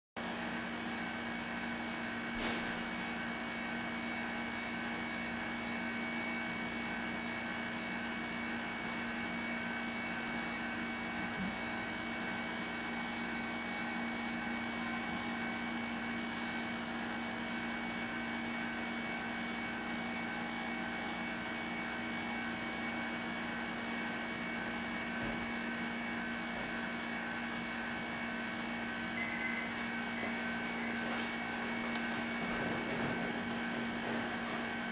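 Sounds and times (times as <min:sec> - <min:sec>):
electrical hum with held tones: 0:00.2 - 0:34.9.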